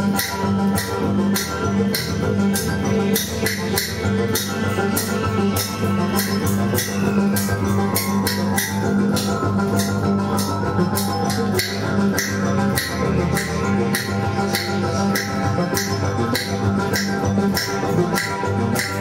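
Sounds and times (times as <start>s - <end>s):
low drone with steady tones: 0.0s - 19.0s
rattling percussion: 0.0s - 19.0s.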